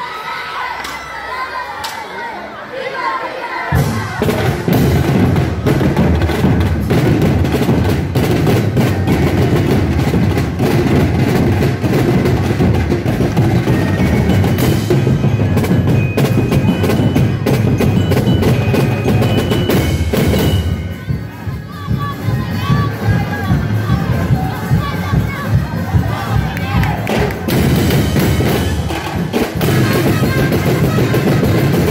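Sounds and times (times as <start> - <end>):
percussion ensemble drumming: 3.7 - 31.9.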